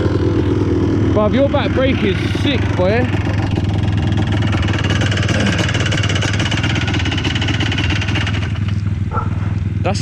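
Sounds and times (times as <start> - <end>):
two-stroke engine running: 0.0 - 10.0.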